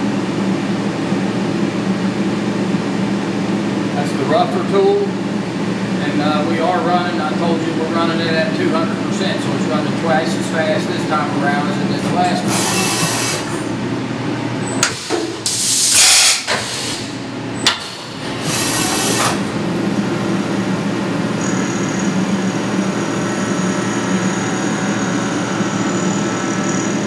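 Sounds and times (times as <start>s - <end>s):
machine hum: 0.0s - 27.0s
high whine of mill cutting steel: 0.6s - 14.5s, 18.0s - 27.0s.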